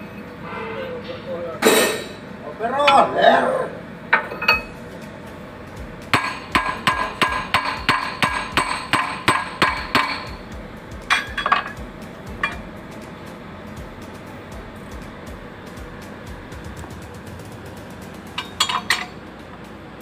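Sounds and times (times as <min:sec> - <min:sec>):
hammer striking metal: 0:00.0 - 0:03.1, 0:04.1 - 0:05.0, 0:05.6 - 0:19.7.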